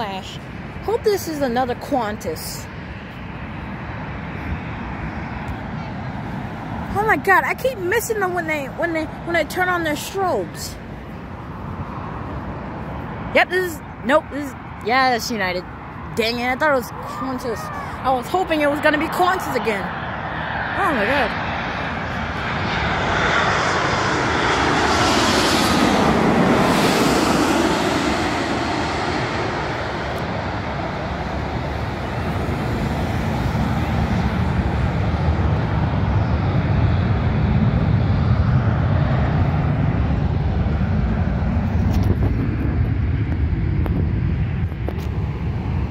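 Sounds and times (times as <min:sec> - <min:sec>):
jet airliner passing overhead: 0:00.0 - 0:45.9.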